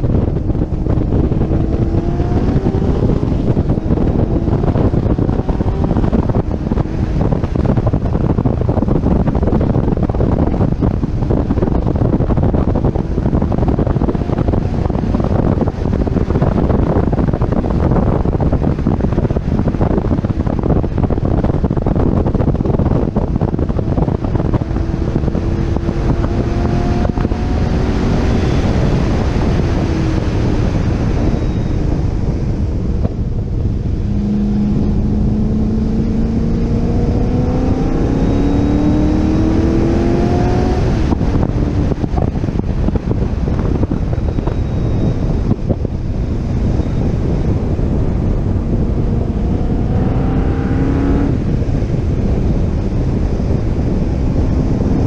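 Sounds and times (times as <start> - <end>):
sports car engine accelerating: 0.0 - 55.0
wind rush on microphone: 0.0 - 55.0.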